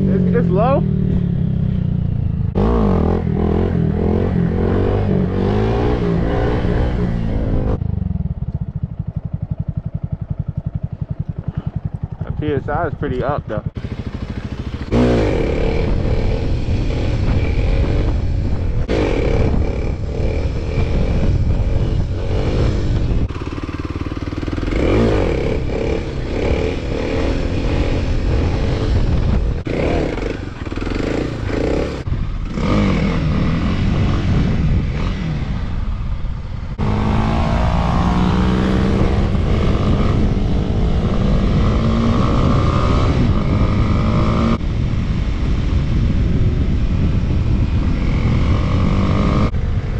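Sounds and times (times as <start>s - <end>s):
dirt bike engine revving: 0.0s - 8.4s, 9.3s - 35.7s, 36.7s - 44.6s, 47.1s - 49.6s.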